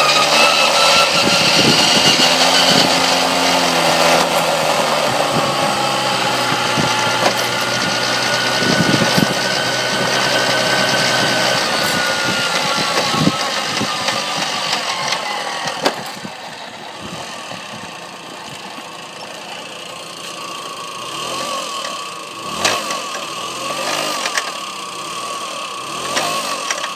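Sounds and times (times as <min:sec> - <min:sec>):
moped engine running: 0:00.0 - 0:26.9.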